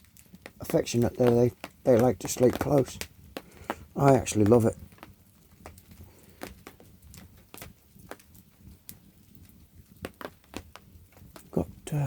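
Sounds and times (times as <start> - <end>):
low steady background hush: 0.0 - 12.0
rain pattering on a tarp: 0.0 - 12.0.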